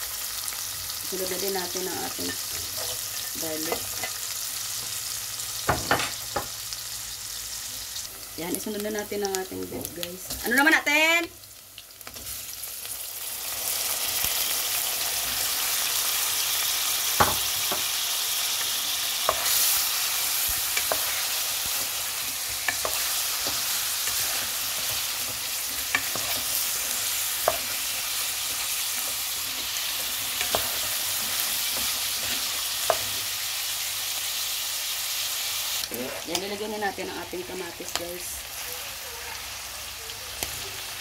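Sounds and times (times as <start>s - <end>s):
meat sizzling in hot oil: 0.0s - 41.0s.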